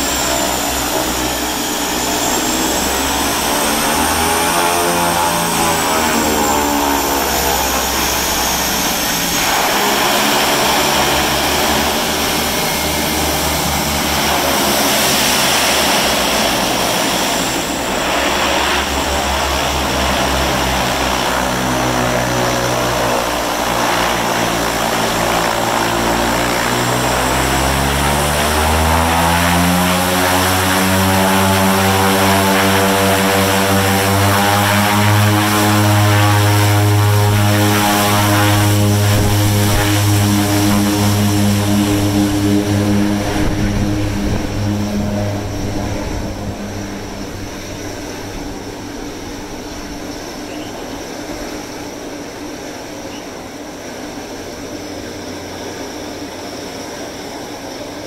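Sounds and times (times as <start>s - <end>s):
turboprop engines spooling up: 0.0s - 58.0s.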